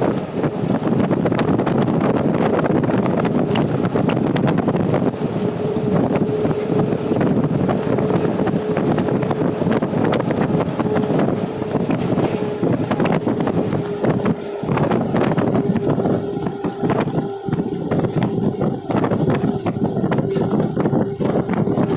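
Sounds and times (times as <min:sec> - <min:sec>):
engine and road noise: 0:00.0 - 0:21.9
steady hum: 0:00.0 - 0:21.9
wind buffeting microphone: 0:00.0 - 0:21.9.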